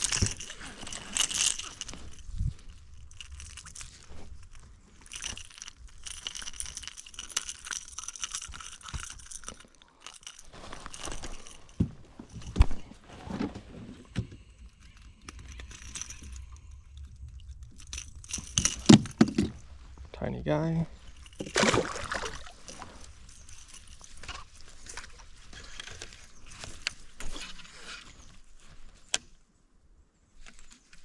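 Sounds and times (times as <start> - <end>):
clicks and rustling of tackle: 0.0 - 29.4, 30.4 - 31.0.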